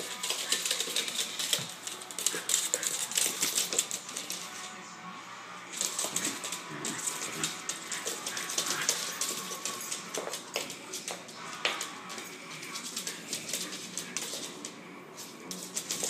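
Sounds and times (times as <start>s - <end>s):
dogs play growling: 0.0s - 4.7s, 5.8s - 16.0s.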